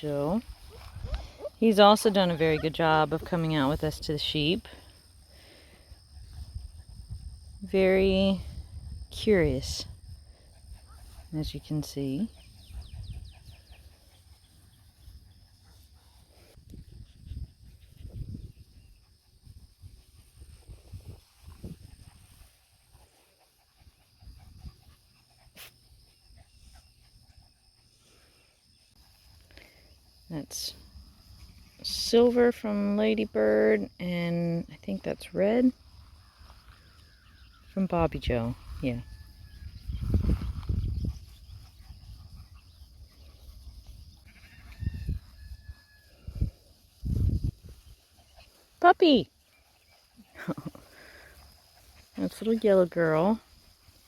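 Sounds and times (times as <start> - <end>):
faint animal noises: 0.0 - 54.0.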